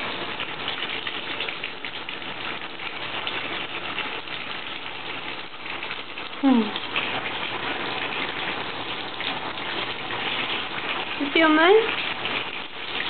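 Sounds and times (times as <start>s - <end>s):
faucet water running: 0.0s - 13.0s
water splashing into tub: 0.0s - 13.0s.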